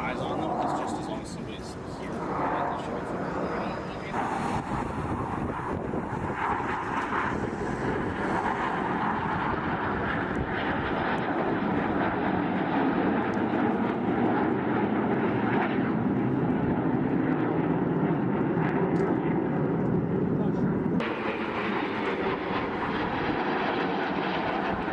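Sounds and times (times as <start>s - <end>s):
airplane engine rushing: 0.0s - 24.9s.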